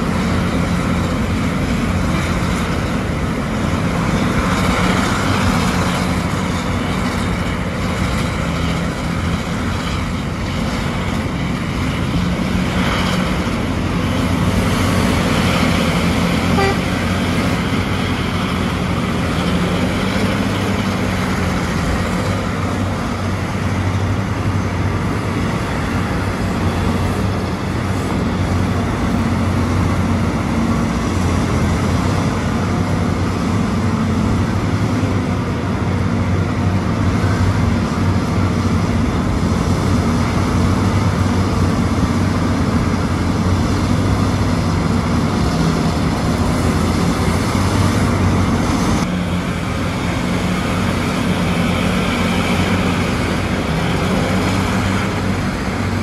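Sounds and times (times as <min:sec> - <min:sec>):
deep engine drone: 0:00.0 - 0:56.0
rushing noise: 0:00.0 - 0:56.0.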